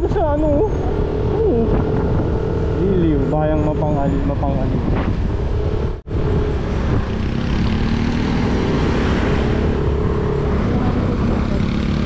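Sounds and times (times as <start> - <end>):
motorcycle engine running: 0.0 - 4.0, 4.7 - 12.0
wind and road noise: 0.0 - 12.0.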